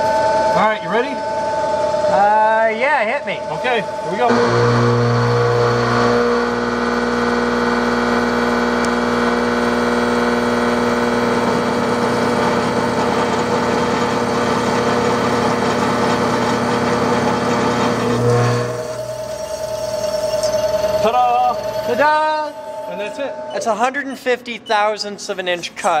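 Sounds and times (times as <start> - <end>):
milling machine whine and hum: 0.0 - 25.1.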